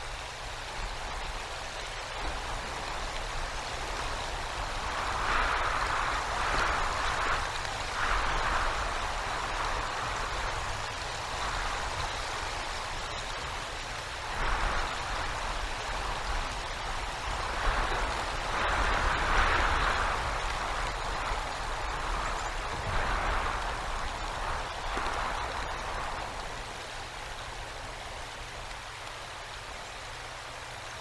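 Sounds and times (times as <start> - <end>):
icy rain: 0.0 - 31.0
wind rushing: 2.3 - 13.6, 14.2 - 28.4.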